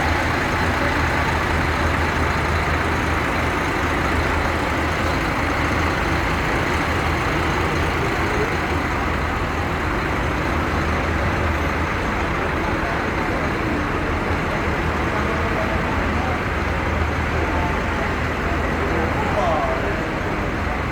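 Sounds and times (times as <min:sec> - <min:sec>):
bus engine and road noise: 0:00.0 - 0:20.9.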